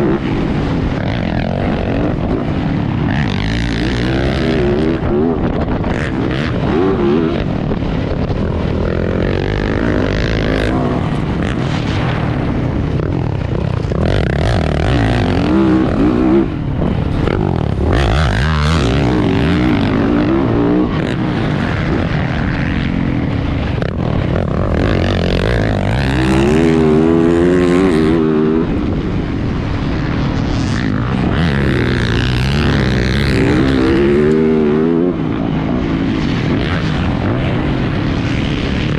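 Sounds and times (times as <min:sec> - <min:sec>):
dirt bike engine revving: 0:00.0 - 0:38.9
rushing wind noise: 0:00.0 - 0:38.9.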